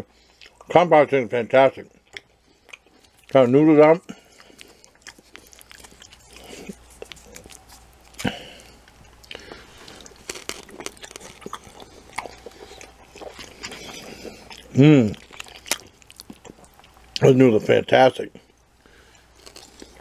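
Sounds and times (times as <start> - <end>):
person chewing noodles: 0.1 - 0.7, 1.9 - 17.3, 18.4 - 20.0.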